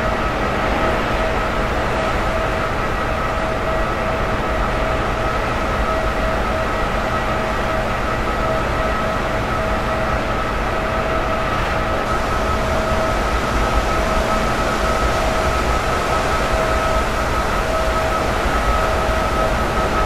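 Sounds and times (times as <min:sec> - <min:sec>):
constant machinery whine: 0:00.0 - 0:20.0
rough sea: 0:00.0 - 0:20.0
wind: 0:00.0 - 0:20.0.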